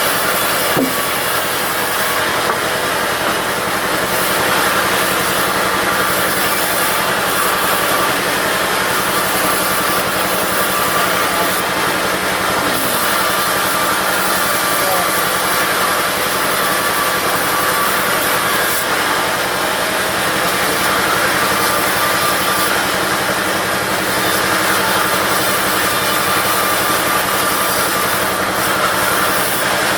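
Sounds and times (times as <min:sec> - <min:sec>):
diesel engine and saw running: 0:00.0 - 0:29.9.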